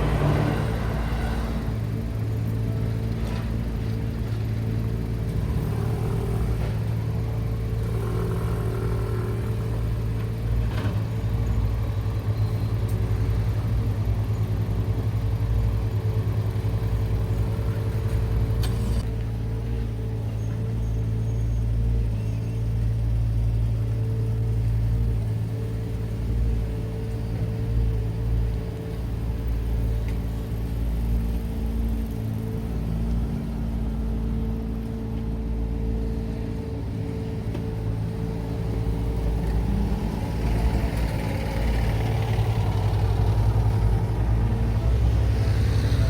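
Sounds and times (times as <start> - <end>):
cars passing: 0.0 - 20.2, 23.7 - 46.0
vehicle engine idling: 0.0 - 46.0.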